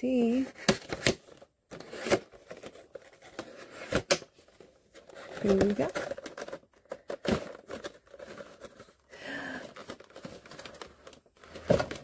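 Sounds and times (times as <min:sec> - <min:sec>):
plastic tray crinkling and scraping: 0:00.5 - 0:09.1, 0:09.7 - 0:12.0.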